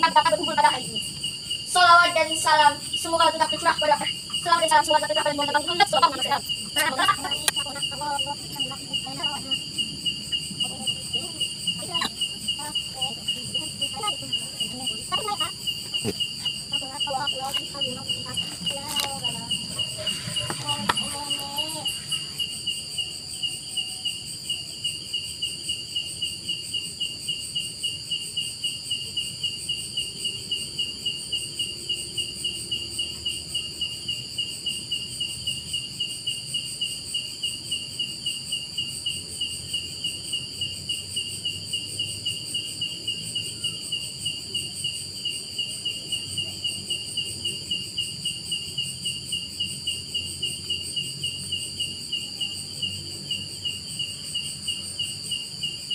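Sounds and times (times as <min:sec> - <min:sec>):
cricket chirping: 0:00.0 - 0:55.9
high-pitched insect trill: 0:00.0 - 0:55.9.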